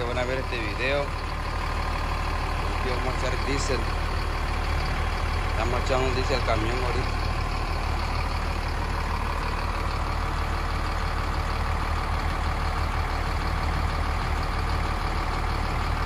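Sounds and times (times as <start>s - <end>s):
fuel pump humming and rushing: 0.0s - 16.0s.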